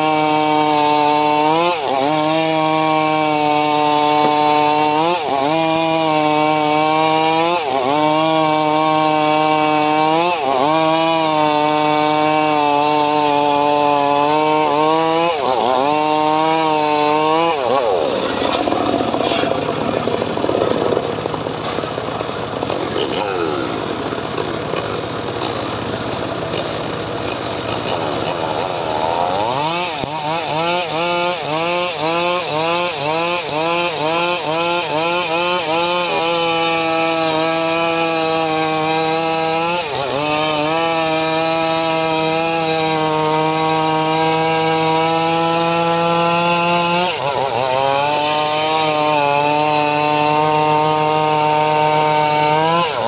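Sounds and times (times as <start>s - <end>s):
engine-driven saw cutting wood: 0.0s - 53.0s.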